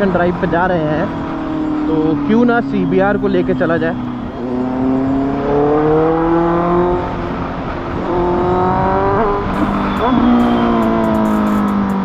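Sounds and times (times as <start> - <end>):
motorcycle accelerating and upshifting: 0.0 - 12.0.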